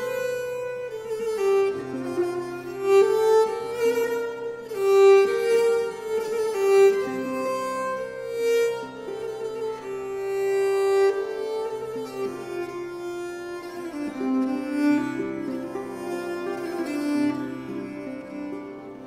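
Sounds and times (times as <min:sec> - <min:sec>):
low sustained strings: 0:00.0 - 0:19.0
slow violin melody: 0:00.0 - 0:19.0.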